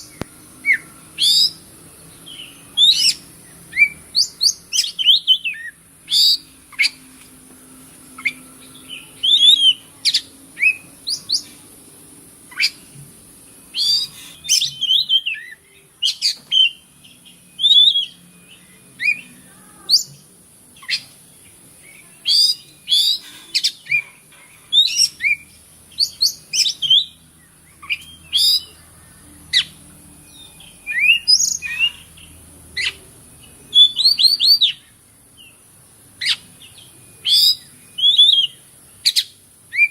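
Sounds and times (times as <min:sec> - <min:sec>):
songbird whistling and chirping: 0:00.0 - 0:07.1, 0:08.2 - 0:11.6, 0:12.5 - 0:13.0, 0:13.6 - 0:35.6, 0:36.2 - 0:39.9
steady high hiss: 0:00.0 - 0:39.9.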